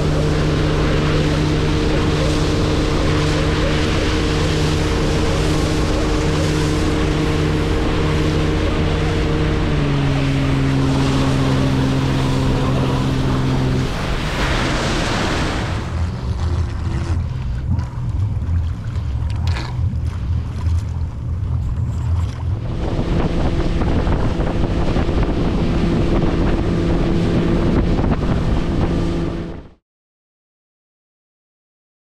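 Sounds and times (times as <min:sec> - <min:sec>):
wind buffeting microphone: 0:00.0 - 0:29.7
boat engine droning: 0:00.0 - 0:29.8
water rushing along hull: 0:00.0 - 0:29.8.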